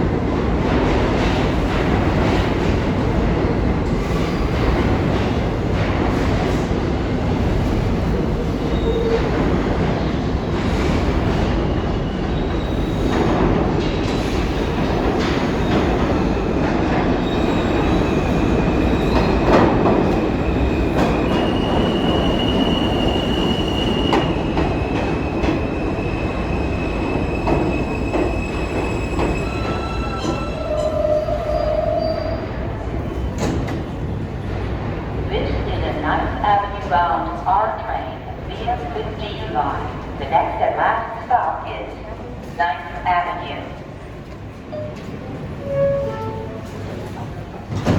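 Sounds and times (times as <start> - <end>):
subway train rumbling on rails: 0.0 - 47.9.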